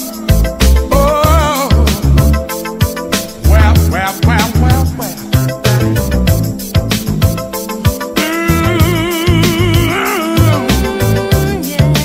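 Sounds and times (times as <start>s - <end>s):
funk music with bass and drums: 0.0s - 12.0s.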